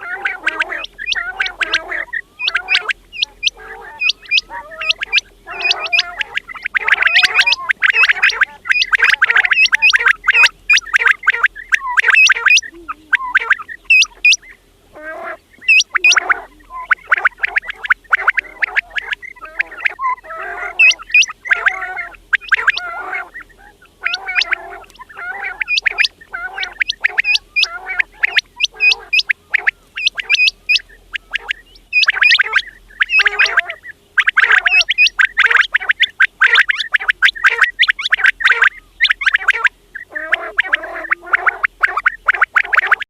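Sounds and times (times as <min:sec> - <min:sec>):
quails calling: 0:00.0 - 0:43.0.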